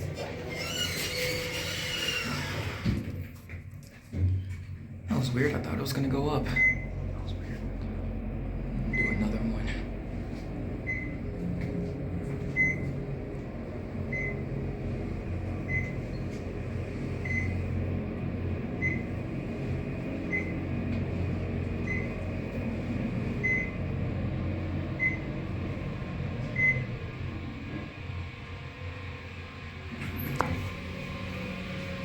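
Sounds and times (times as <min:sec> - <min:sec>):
elevator humming in motion: 0:00.0 - 0:32.0.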